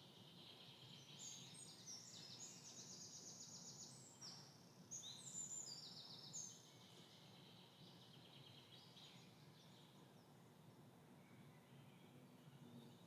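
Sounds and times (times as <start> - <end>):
songbirds trilling: 0.0 - 13.0.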